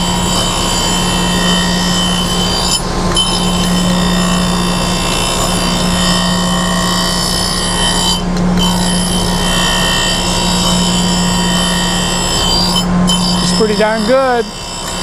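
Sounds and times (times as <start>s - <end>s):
grinding wheel hiss on steel: 0.0s - 15.0s
motor hum: 0.0s - 15.0s
steady high tones: 0.0s - 15.0s.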